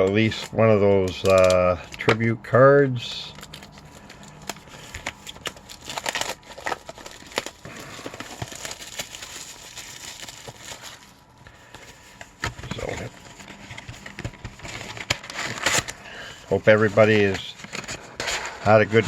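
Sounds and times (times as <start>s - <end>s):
packaging crinkling and rustling: 0.0s - 2.3s, 3.1s - 19.0s.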